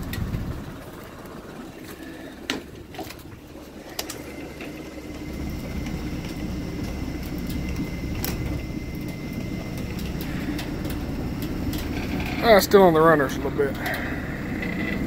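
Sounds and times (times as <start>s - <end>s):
boat lift motor humming: 0.0s - 15.0s.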